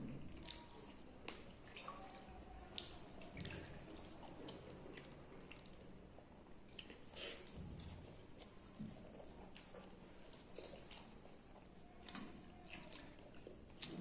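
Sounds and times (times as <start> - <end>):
wet eating sounds: 0.0 - 14.0
small clicks and drips: 0.1 - 14.0.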